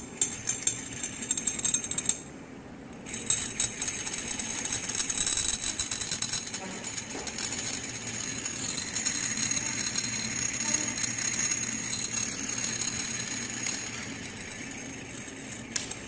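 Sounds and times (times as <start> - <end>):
fan humming: 0.0 - 16.0
magnets rattling against glass: 3.1 - 16.0.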